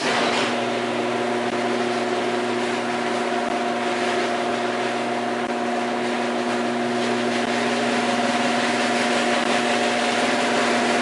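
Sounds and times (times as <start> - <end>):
garage door opener motor humming: 0.0 - 11.0.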